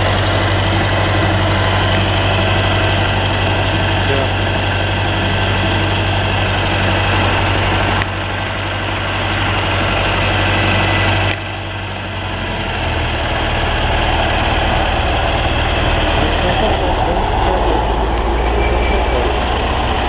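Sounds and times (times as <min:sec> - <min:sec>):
machinery engine idling: 0:00.0 - 0:20.0.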